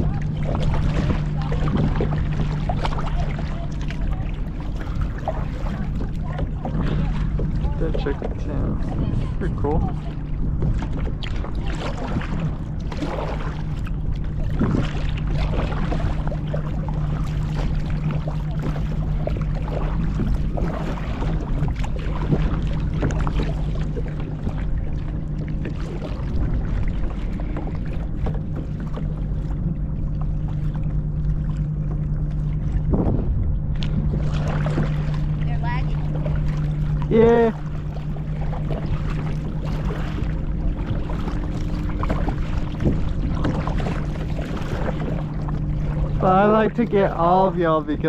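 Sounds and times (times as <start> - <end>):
wind on microphone: 0.0 - 29.8, 32.4 - 47.2
low hum: 0.0 - 48.0
paddle splashing water: 0.0 - 48.0.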